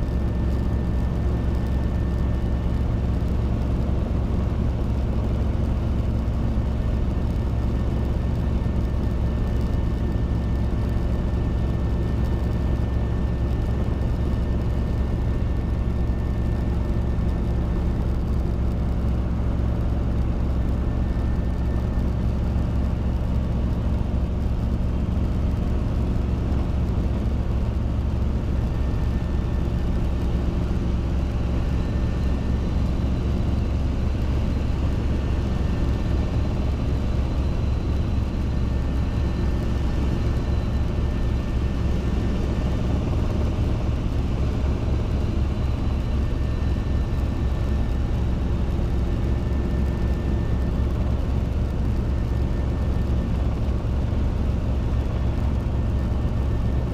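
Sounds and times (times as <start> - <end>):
helicopter engine and rotors droning: 0.0 - 56.9.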